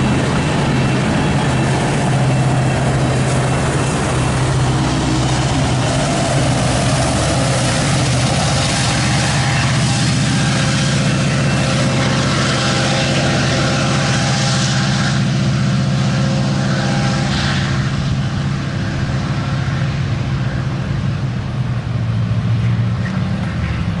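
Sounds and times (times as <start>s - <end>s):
train wheels rumbling over rails: 0.0s - 24.0s.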